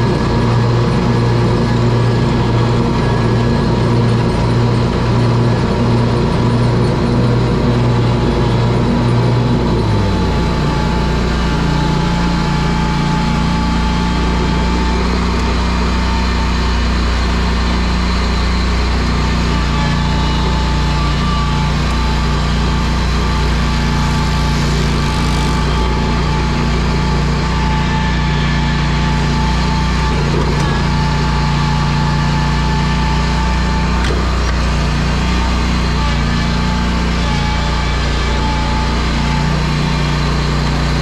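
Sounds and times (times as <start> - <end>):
mower engine running: 0.0 - 41.0.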